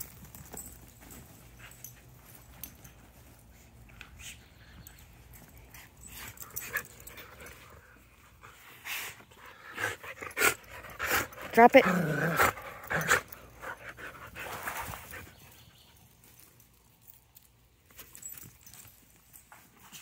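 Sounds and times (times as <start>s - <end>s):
dogs scuffling: 0.0s - 8.6s, 10.5s - 20.0s.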